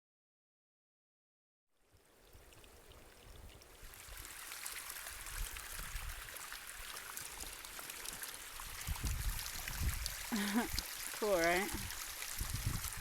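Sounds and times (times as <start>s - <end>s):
stream water rushing: 1.9s - 13.0s.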